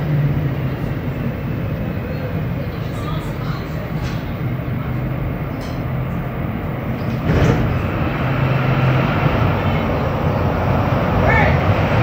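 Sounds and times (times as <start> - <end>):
train hum and rolling gear: 0.0 - 12.0
train rush: 0.0 - 12.0.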